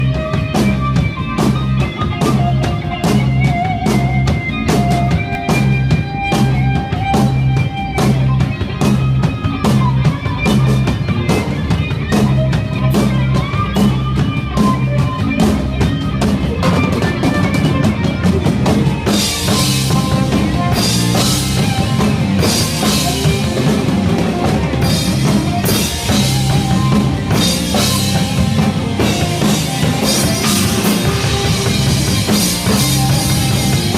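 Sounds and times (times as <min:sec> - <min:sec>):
bass: 0:00.0 - 0:33.9
drum kit beat: 0:00.0 - 0:33.9
melodic keyboard or guitar: 0:00.0 - 0:33.9.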